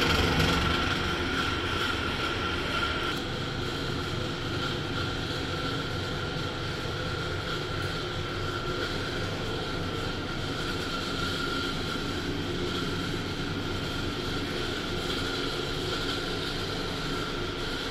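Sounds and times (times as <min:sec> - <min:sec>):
machine drone with high whine: 0:00.0 - 0:17.9.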